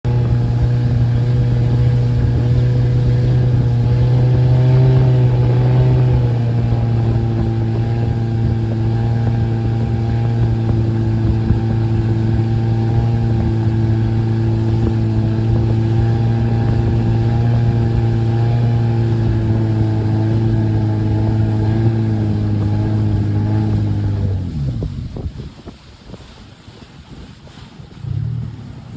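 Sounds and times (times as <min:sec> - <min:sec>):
motorboat engine running: 0:00.0 - 0:28.9.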